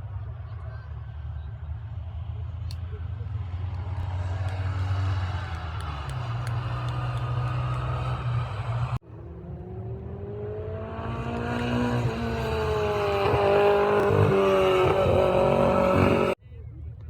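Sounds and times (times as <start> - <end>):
racing car engine: 0.0 - 16.4
car accelerating closer: 1.9 - 16.4.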